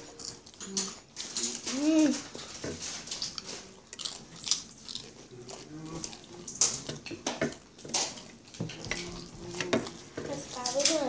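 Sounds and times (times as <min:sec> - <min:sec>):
tortilla chips being chewed: 0:00.0 - 0:11.0.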